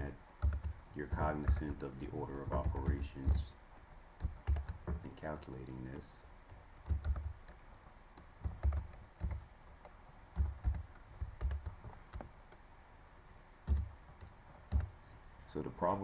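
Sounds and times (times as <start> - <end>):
computer keyboard typing: 0.0 - 7.6, 8.2 - 12.6, 13.6 - 15.0.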